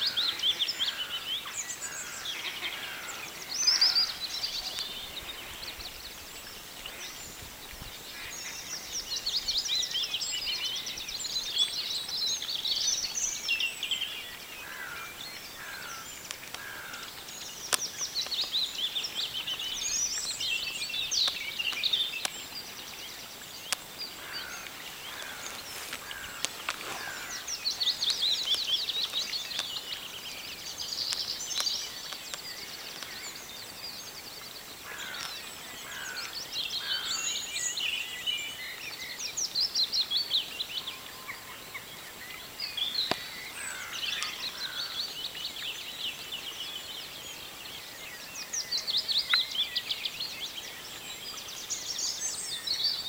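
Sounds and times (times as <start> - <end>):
songbirds trilling: 0.0 - 53.0.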